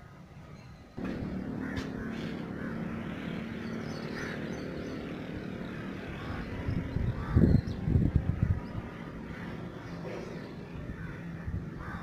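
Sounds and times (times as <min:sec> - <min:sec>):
low engine drone: 0:01.0 - 0:12.0.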